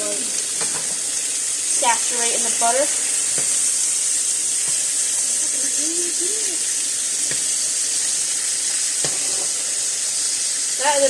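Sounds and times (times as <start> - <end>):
steaks sizzling in a pan: 0.0 - 11.0.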